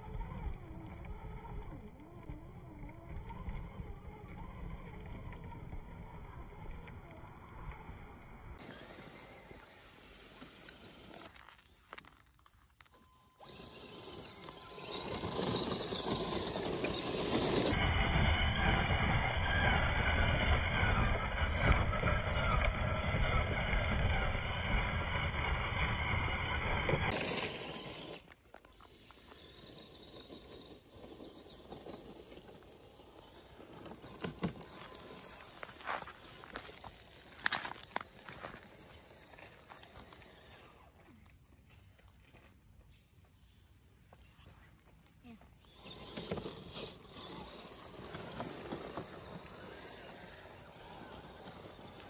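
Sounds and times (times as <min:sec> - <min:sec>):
rc truck electric drivetrain: 0:00.0 - 0:41.4, 0:45.5 - 0:52.0.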